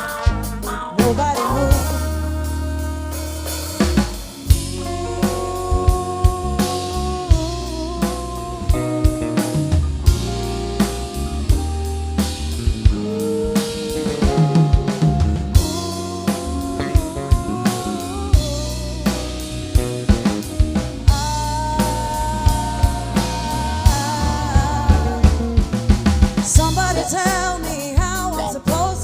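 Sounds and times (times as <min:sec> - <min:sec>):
live band playing: 0:00.0 - 0:29.0
steady drum beat: 0:00.0 - 0:29.0.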